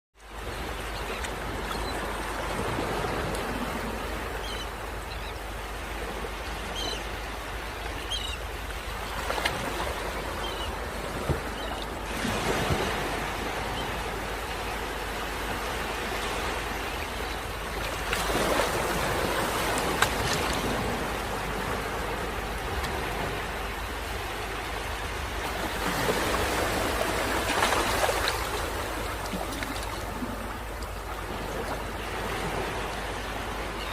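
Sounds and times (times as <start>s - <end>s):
flowing water rushing: 0.2s - 33.9s.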